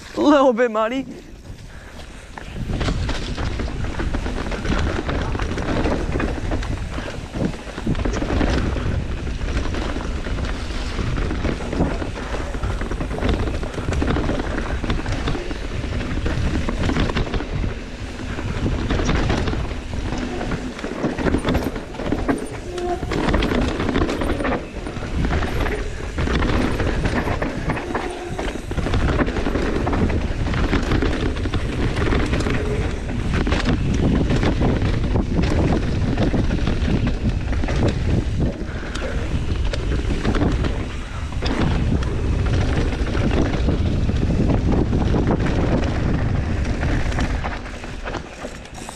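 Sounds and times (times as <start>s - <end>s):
bike rattling: 0.0s - 48.9s
bike tyres rolling over dirt: 0.0s - 48.9s.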